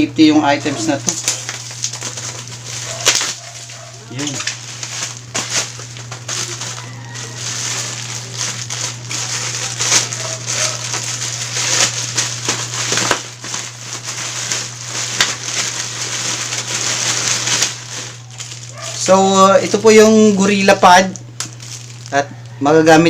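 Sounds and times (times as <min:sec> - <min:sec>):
bubble wrap crinkling and popping: 0:00.6 - 0:22.6.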